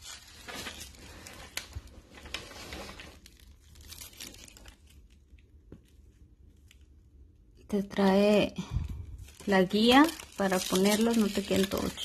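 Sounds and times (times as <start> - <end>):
paper backing peeling crackle: 0.0 - 12.0.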